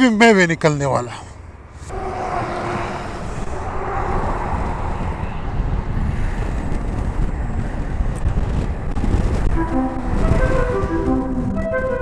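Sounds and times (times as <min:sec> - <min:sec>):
road noise: 0:00.0 - 0:12.0
wind buffeting on microphone: 0:01.5 - 0:12.0.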